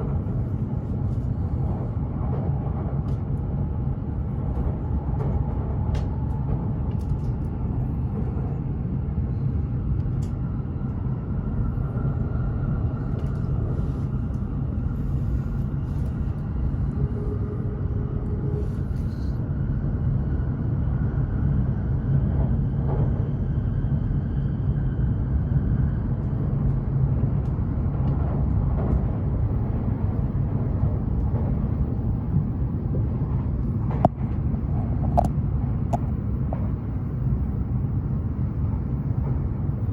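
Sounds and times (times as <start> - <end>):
train rumbling at speed: 0.0 - 39.9.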